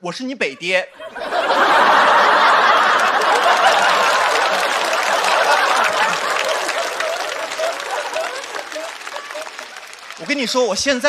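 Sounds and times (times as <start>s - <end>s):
audience laughing: 0.5s - 10.8s
audience applauding: 1.2s - 11.0s.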